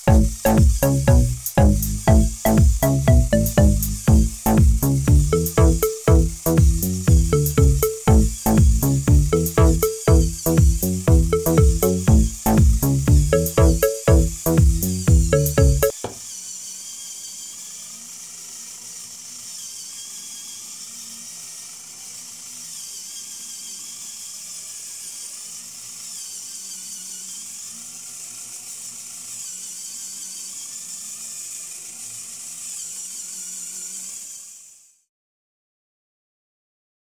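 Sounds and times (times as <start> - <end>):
electric gear motor whine: 0.0 - 34.9.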